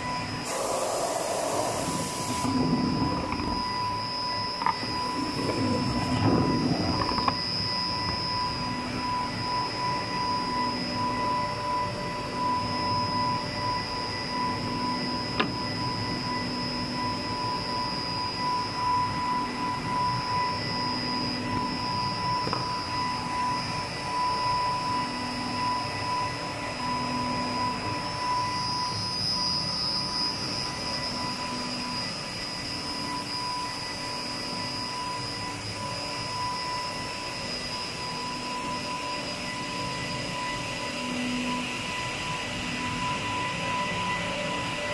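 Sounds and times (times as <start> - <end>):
machine drone with whining tones: 0.0 - 44.9
pulsing low hum: 0.0 - 44.9.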